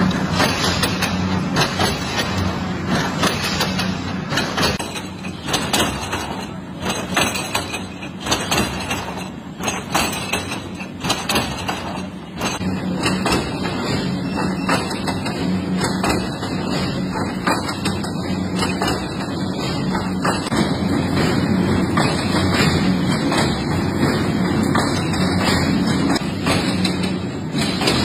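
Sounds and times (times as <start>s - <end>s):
wire netting machine clattering: 0.0s - 28.0s.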